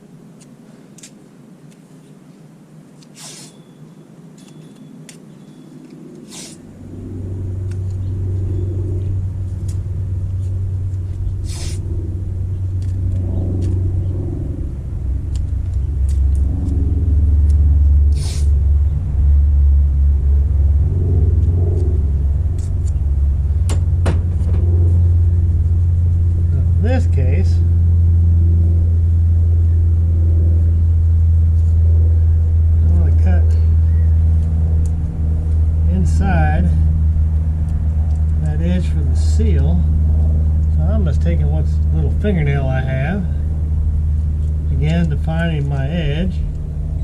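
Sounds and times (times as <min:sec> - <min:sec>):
loud low rumble: 0:06.6 - 0:47.0.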